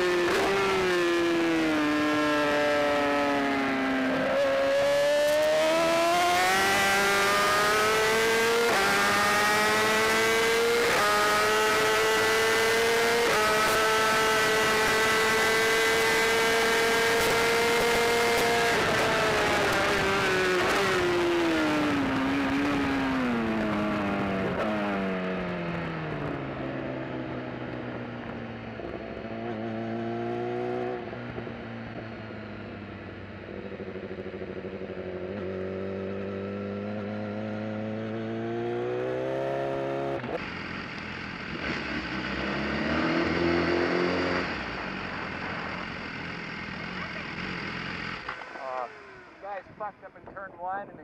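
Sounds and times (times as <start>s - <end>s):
motorcycle engine: 0.0s - 50.8s.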